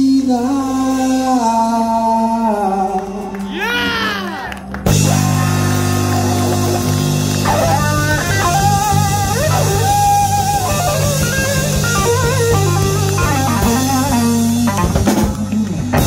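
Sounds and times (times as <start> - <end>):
bass guitar: 0.0 - 16.0
drum kit: 0.0 - 16.0
electric guitar lead: 3.0 - 16.0.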